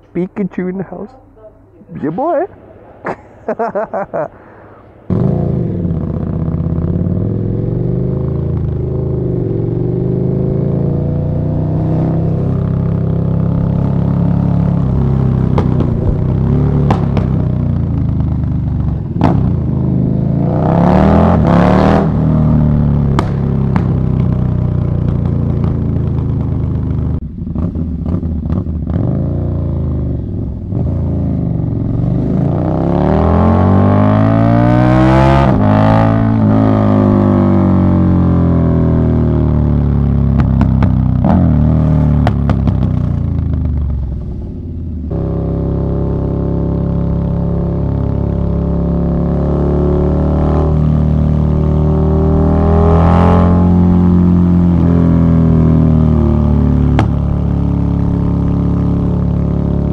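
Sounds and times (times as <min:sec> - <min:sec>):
motorcycle engine revving: 0:05.0 - 0:59.9.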